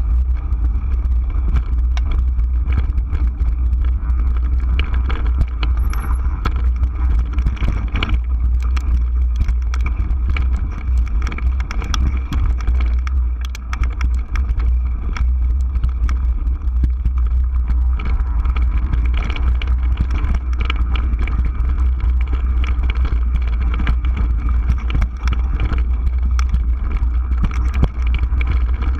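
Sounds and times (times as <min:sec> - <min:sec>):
bike clicks and rattles: 0:00.0 - 0:28.9
low rumble of wind and vibration: 0:00.0 - 0:28.9.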